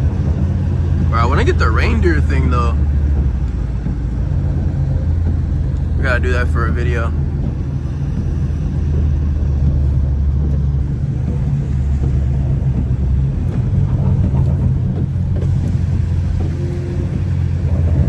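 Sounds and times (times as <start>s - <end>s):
car engine and exhaust drone: 0.0s - 18.0s.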